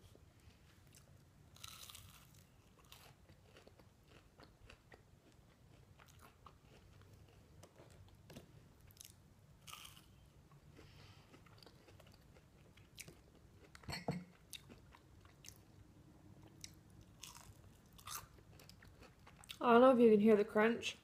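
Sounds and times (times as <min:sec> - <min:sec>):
chewing crunchy food: 0:00.8 - 0:15.8, 0:16.4 - 0:19.6.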